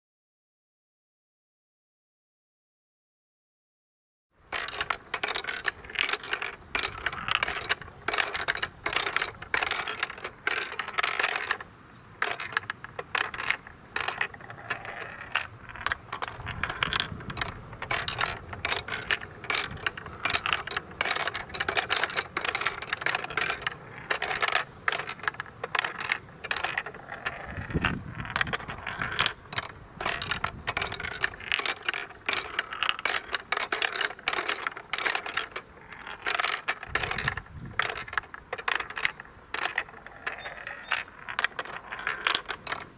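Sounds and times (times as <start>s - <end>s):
marbles clattering in wooden run: 4.4s - 42.9s.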